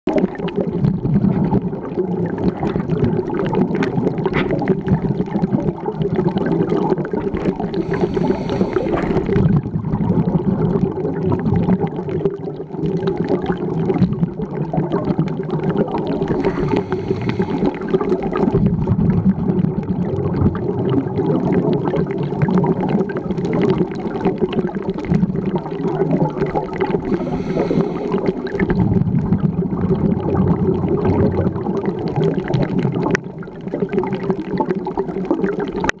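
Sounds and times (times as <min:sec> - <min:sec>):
bubbling: 0:00.1 - 0:36.0
underwater water rush: 0:00.1 - 0:36.0.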